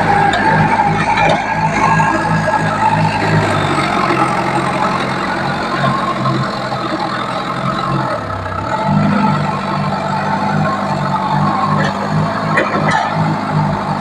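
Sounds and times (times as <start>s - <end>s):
machine engine humming: 0.0s - 14.0s.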